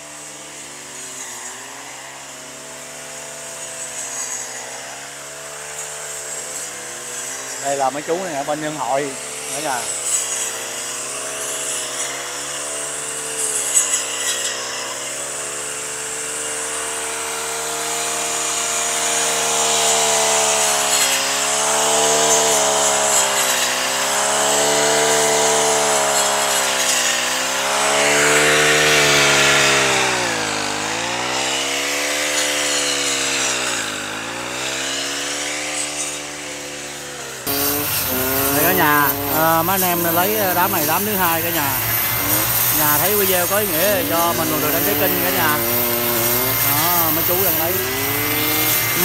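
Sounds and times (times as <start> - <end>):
brush cutter engine: 0.0 - 49.0
other brush cutters: 0.0 - 49.0.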